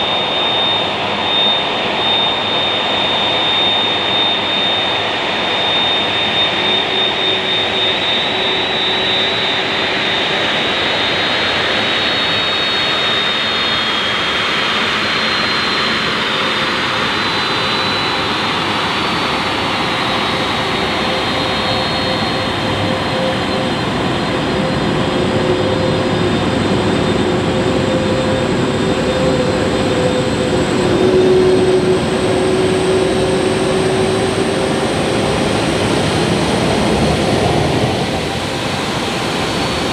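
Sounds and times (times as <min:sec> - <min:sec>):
high jet whine: 0:00.0 - 0:39.9
jet engine roar: 0:00.0 - 0:39.9.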